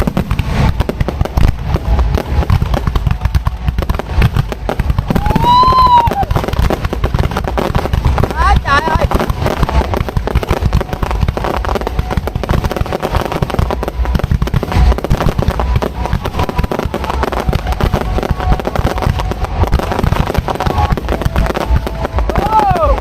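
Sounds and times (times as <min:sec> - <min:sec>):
deep fireworks booms: 0:00.0 - 0:23.0
fireworks bangs and crackling: 0:00.0 - 0:23.0.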